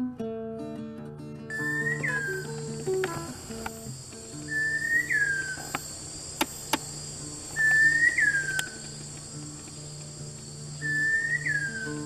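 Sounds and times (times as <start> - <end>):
soft guitar music: 0.0 - 12.0
bird whistling song: 1.5 - 12.0
high insect drone: 1.5 - 12.0
sharp clicks: 2.0 - 12.0.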